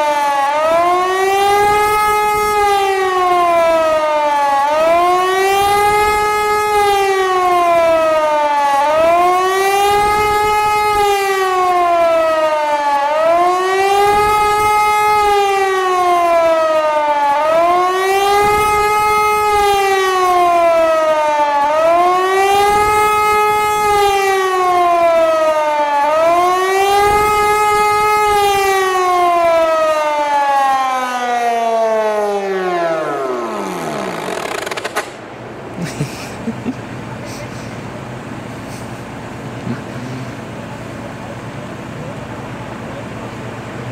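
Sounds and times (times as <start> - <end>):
air siren rising and falling: 0.0 - 35.7.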